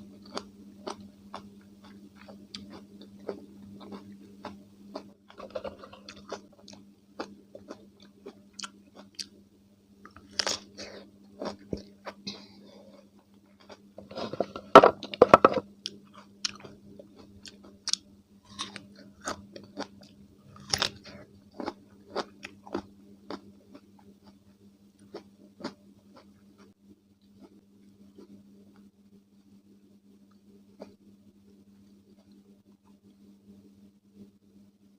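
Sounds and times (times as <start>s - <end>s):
chewing crunchy cucumber: 0.1s - 9.4s, 10.0s - 28.9s.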